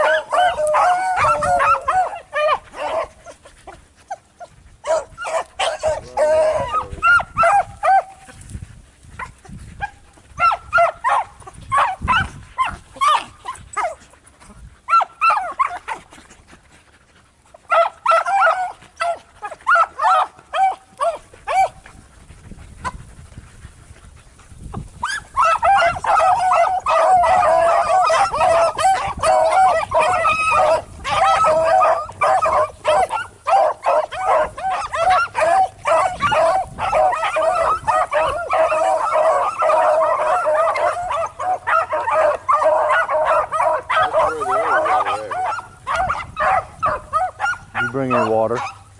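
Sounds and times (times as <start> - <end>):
dogs baying: 0.0 - 48.9.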